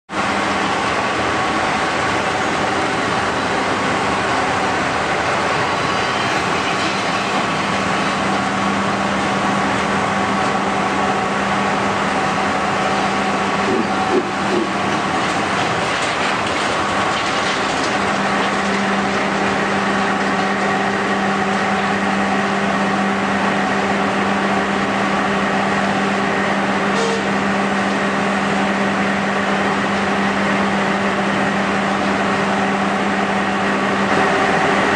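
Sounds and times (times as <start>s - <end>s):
machinery drone: 0.1s - 34.9s.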